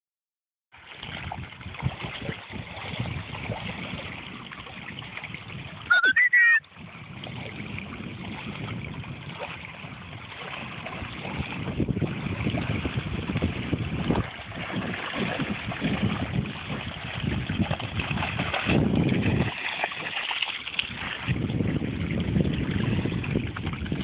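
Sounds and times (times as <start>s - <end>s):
small waves lapping in reeds: 0.8s - 5.9s, 6.8s - 24.0s
wind buffeting microphone: 1.0s - 24.0s.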